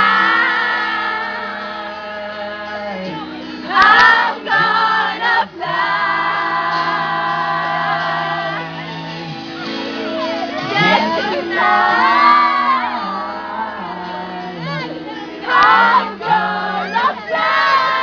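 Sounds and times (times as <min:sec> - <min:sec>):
live band playing: 0:00.0 - 0:18.0
person singing long notes: 0:00.0 - 0:18.0.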